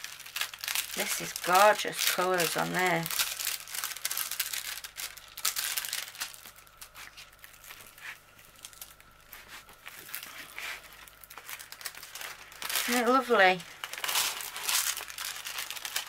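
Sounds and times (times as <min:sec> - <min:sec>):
plastic film crinkling: 0:00.0 - 0:16.0.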